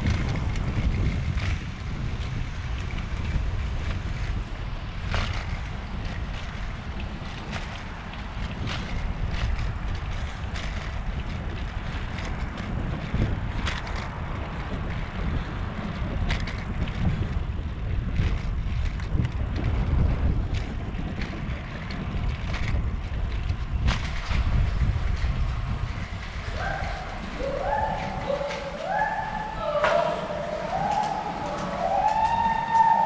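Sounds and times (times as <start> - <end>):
wheels rolling on concrete: 0.0 - 33.0
wind rumbling on microphone: 0.0 - 33.0.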